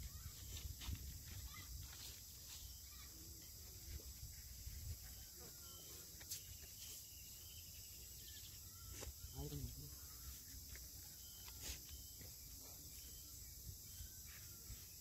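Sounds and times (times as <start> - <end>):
faint chirping: 0.0 - 15.0.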